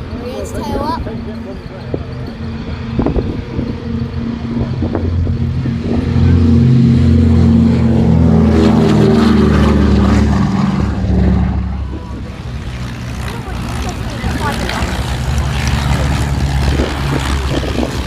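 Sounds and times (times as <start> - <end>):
propeller aircraft taking off: 0.0 - 18.0.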